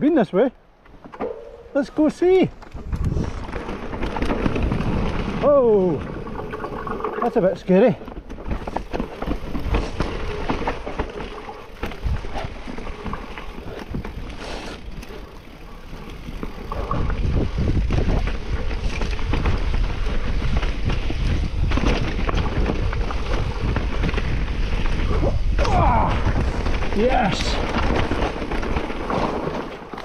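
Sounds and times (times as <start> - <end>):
bike tyres on dirt and rock: 0.0 - 30.0
bike rattling over bumps: 0.8 - 30.0
wind buffeting microphone: 2.5 - 7.2, 8.4 - 29.1.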